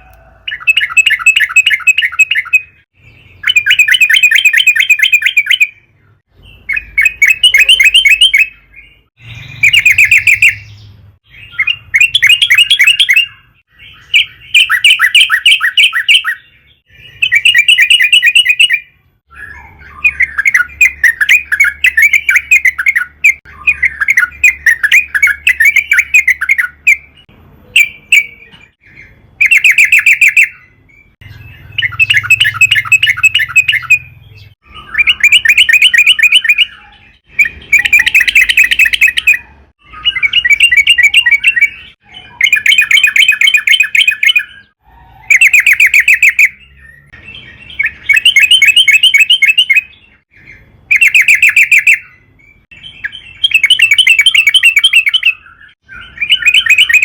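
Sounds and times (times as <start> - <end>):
bird singing rapid chattering notes: 0.5 - 57.0.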